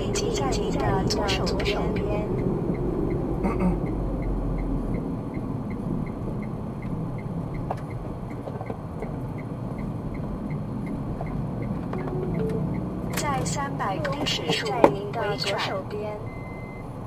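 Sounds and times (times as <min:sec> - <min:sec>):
car road and engine noise: 0:00.0 - 0:17.0
turn signal ticking: 0:00.0 - 0:17.0.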